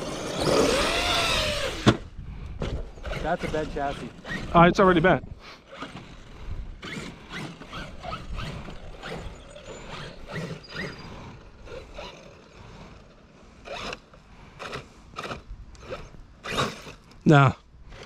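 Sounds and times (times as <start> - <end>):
electric rc truck motor whirring: 0.0 - 17.2.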